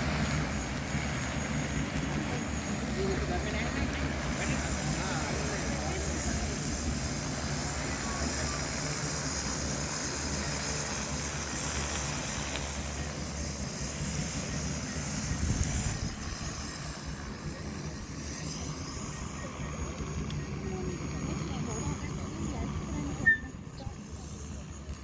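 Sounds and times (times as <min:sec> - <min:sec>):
drone propellers humming: 0:00.0 - 0:25.0.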